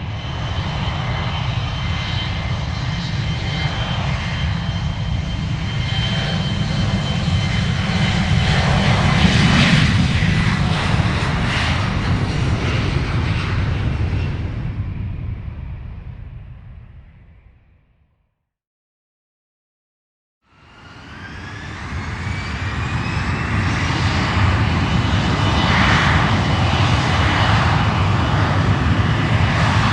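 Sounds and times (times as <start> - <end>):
aircraft flying past: 0.0 - 17.8, 20.5 - 29.9.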